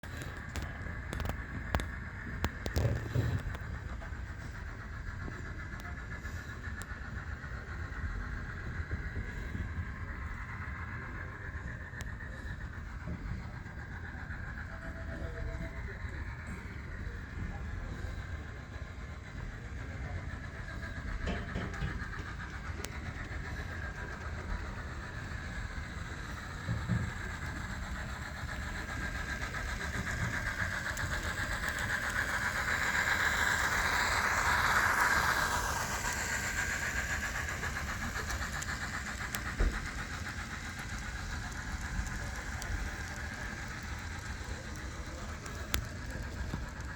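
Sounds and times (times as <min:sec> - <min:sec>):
model train motor hum: 0:00.0 - 0:46.9.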